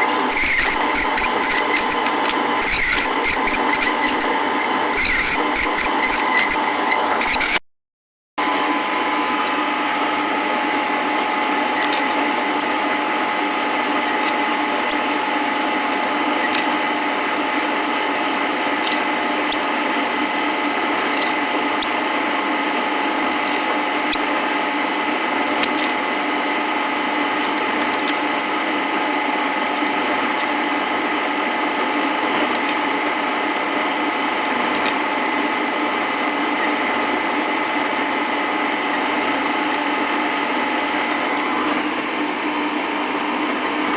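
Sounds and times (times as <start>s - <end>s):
cutting tool machining steel: 0.0s - 7.6s, 8.4s - 43.9s
lathe whine: 0.0s - 7.6s, 8.4s - 43.9s.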